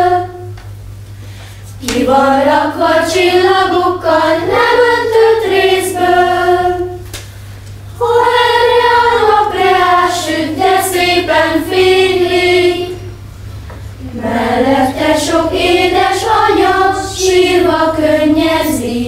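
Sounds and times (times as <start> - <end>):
children's choir singing: 0.0 - 0.6, 1.8 - 7.1, 8.0 - 13.2, 14.0 - 19.0.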